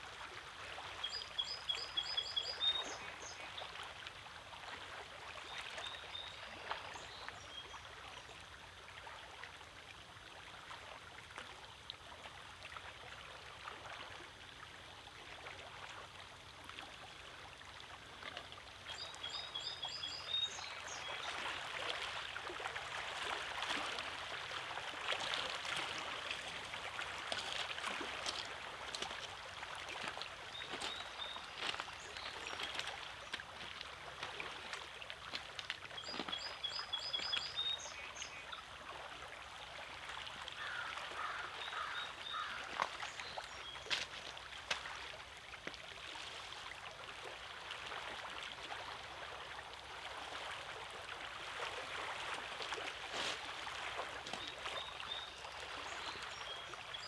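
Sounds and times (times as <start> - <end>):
small waves lapping over rocks: 0.0 - 57.0.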